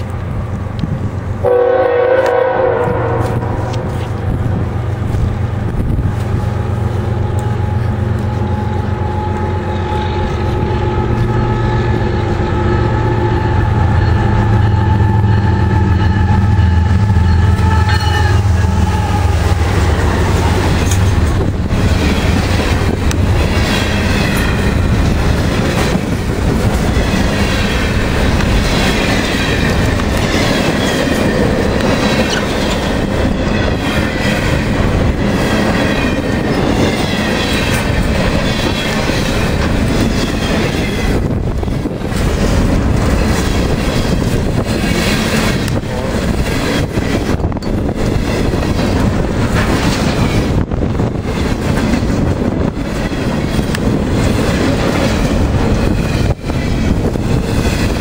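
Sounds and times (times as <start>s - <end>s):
diesel locomotives droning: 0.0s - 58.0s
train cars rumbling: 0.0s - 58.0s
wheels clacking over rail joints: 3.2s - 58.0s.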